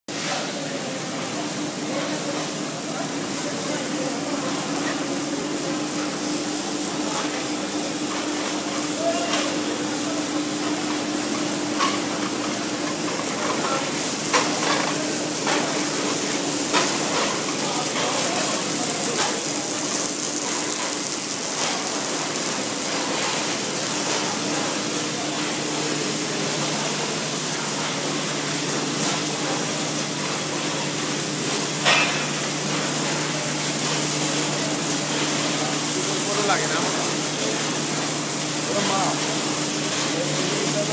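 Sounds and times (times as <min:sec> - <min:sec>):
constant machine hum: 0:00.2 - 0:40.9.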